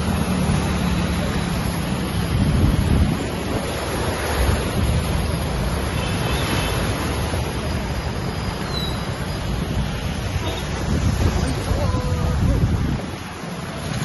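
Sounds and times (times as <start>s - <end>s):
wind on microphone: 0.0s - 7.6s, 8.7s - 14.0s
water churned by vehicle: 0.0s - 14.0s.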